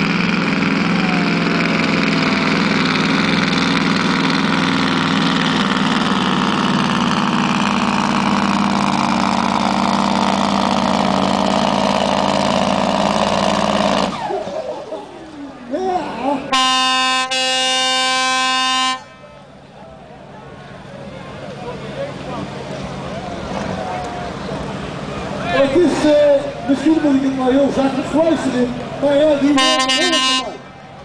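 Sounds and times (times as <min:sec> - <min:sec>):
truck engine at full power: 0:00.0 - 0:31.0.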